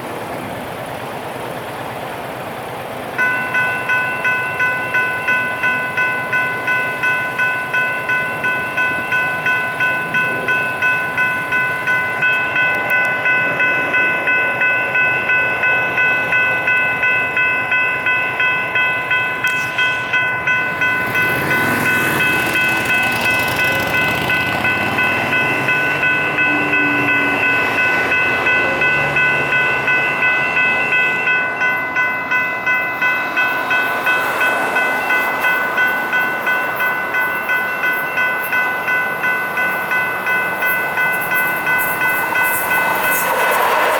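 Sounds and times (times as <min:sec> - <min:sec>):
crossing bells dinging: 0:00.0 - 0:43.9
passing train rushing: 0:00.0 - 0:43.9.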